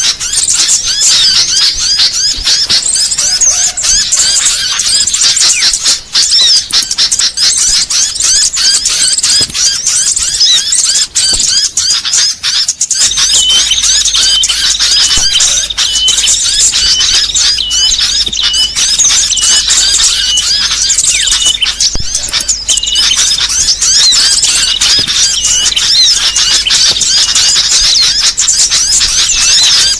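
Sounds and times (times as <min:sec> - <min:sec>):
songbirds chirping and chattering: 0:00.0 - 0:29.9.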